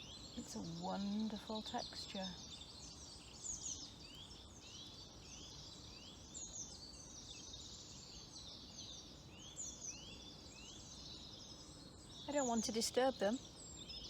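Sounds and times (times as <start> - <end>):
faint songbirds singing: 0.0 - 14.0.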